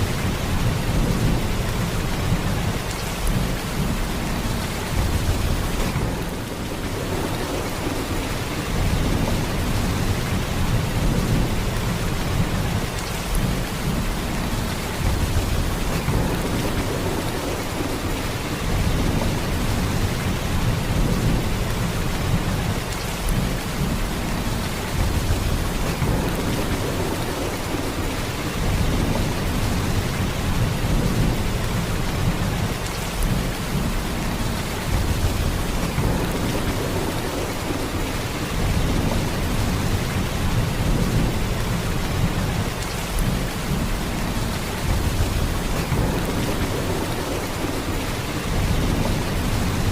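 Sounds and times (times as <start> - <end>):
heavy rain downpour: 0.0 - 49.9.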